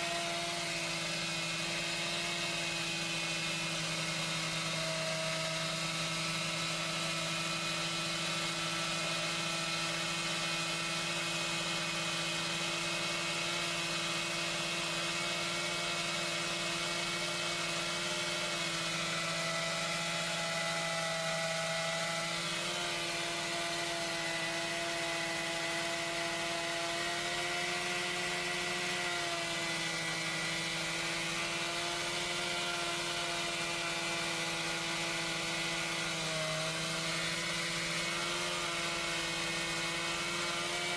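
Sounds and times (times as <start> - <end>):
chainsaw running at high speed: 0.0 - 40.9.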